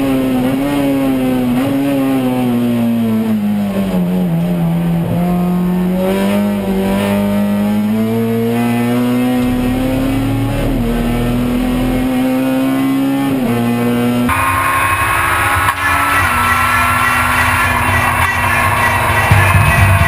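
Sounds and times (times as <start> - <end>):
race car engine accelerating: 0.0 - 20.0.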